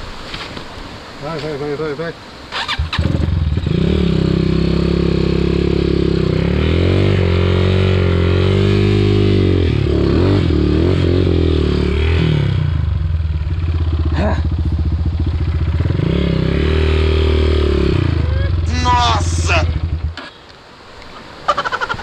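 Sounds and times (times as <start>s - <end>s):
dirt bike engine revving: 2.5s - 20.2s.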